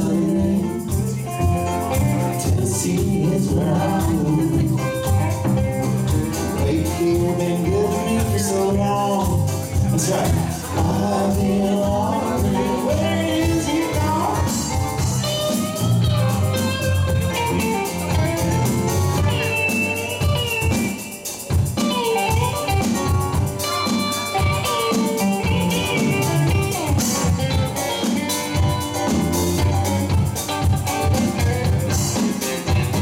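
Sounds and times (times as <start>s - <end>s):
drum kit: 0.0s - 33.0s
electric bass: 0.0s - 33.0s
electric guitar lead with bent notes: 0.0s - 33.0s
keyboard: 0.0s - 33.0s.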